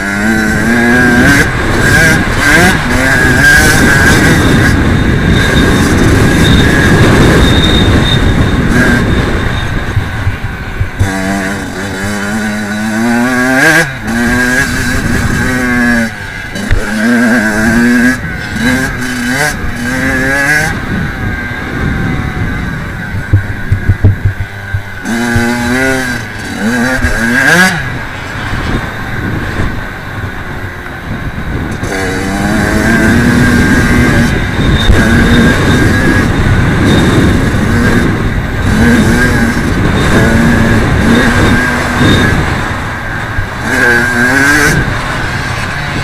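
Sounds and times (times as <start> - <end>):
two-stroke motocross engine revving: 0.0 - 46.0.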